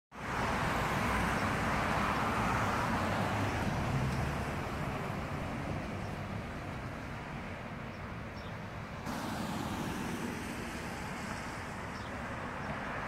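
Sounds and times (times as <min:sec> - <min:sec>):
road traffic passing: 0:00.1 - 0:13.0.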